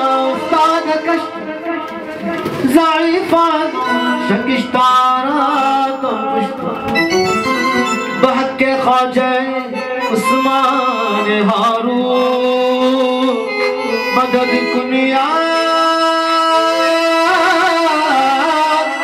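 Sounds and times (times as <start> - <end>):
electronic keyboard: 0.0 - 19.0
man singing long ornamented notes: 0.0 - 19.0
tabla: 0.0 - 19.0.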